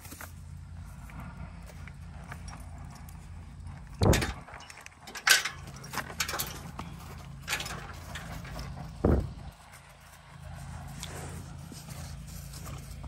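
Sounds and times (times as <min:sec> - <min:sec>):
horse tack jingling: 0:02.0 - 0:13.0.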